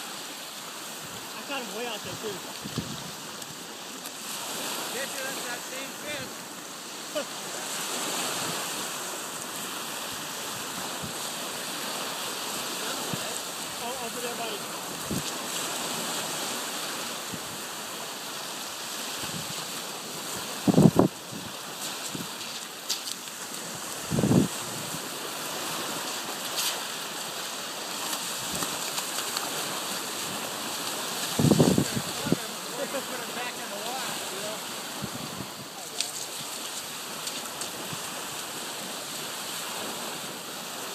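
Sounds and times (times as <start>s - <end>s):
small waves breaking on beach: 0.0s - 40.9s.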